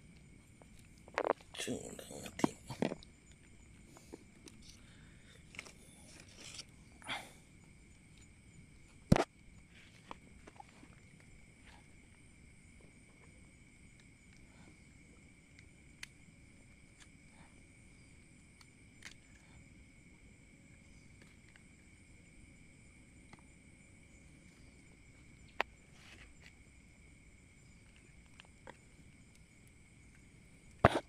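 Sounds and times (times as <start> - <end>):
night insects chirring: 0.0 - 31.0.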